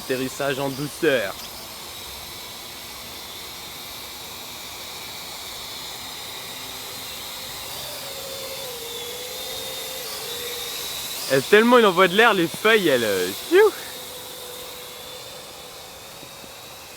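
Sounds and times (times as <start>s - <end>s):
drone rotors whirring: 0.0s - 16.9s
lower wavering motor whine: 0.0s - 16.9s.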